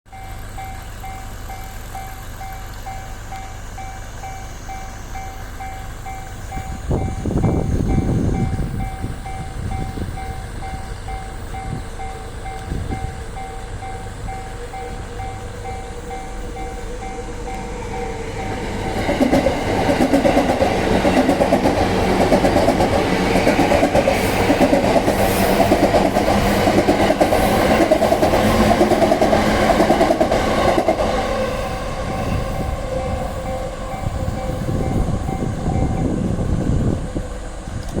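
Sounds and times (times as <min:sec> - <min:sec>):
two-tone crossing warning bell: 0:00.1 - 0:37.6
train wheels clattering on rails: 0:00.1 - 0:38.0.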